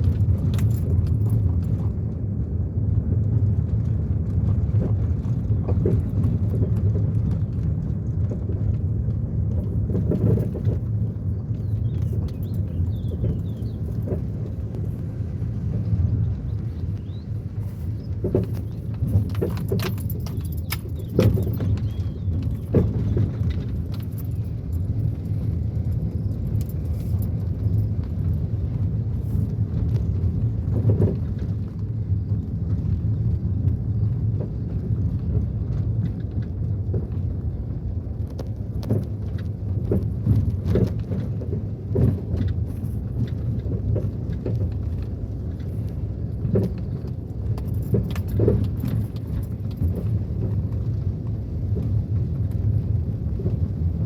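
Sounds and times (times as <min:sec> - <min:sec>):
road rumble inside car: 0:00.0 - 0:54.0.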